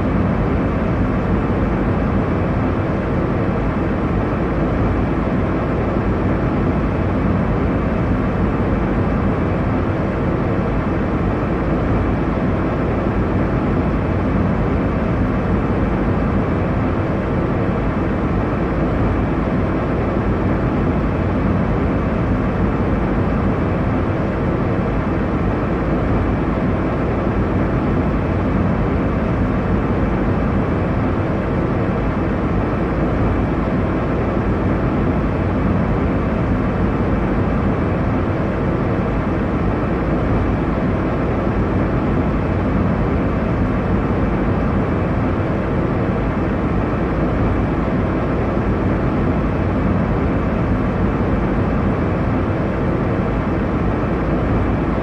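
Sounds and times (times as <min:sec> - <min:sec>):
faint steady hum tones: 0:00.0 - 0:55.0.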